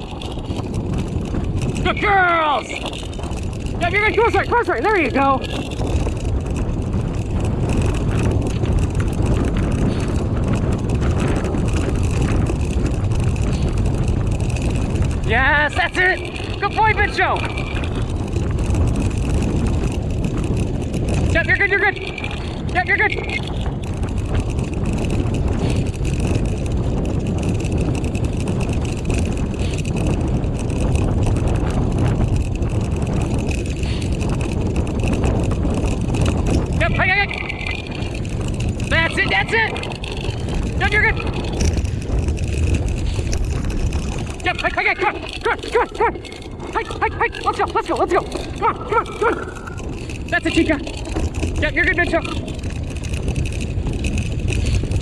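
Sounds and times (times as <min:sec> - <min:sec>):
constant high whine: 0:00.0 - 0:55.0
wheels rolling over dirt trail: 0:00.0 - 0:55.0
wind on microphone: 0:00.0 - 0:55.0.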